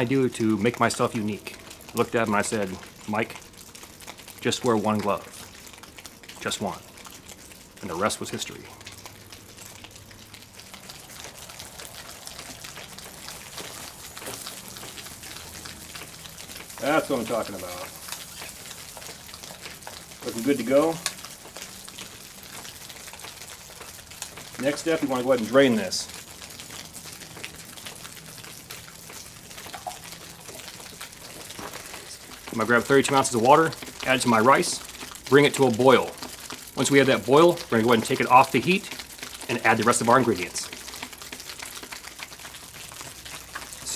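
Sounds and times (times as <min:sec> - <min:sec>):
meat sizzling in a pot: 0:00.0 - 0:43.9.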